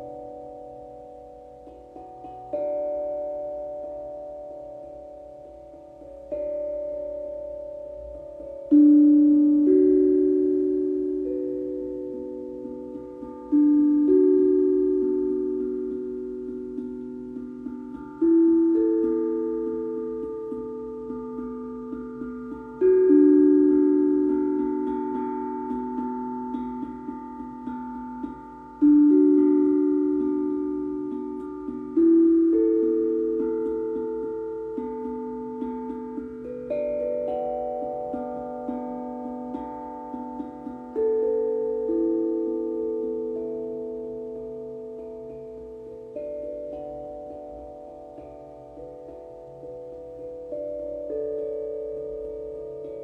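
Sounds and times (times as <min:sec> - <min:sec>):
steel tongue drum notes: 0:00.0 - 0:53.0.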